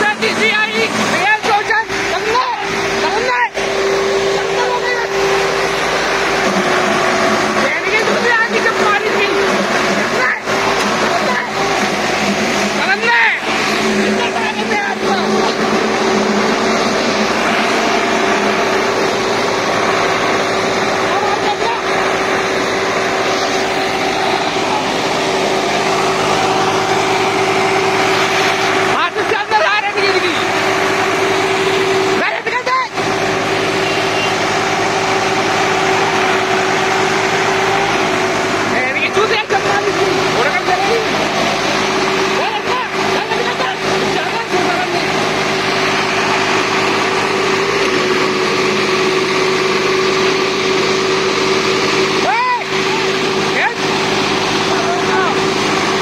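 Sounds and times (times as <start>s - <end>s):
tractor diesel engine revving: 0.0s - 56.0s.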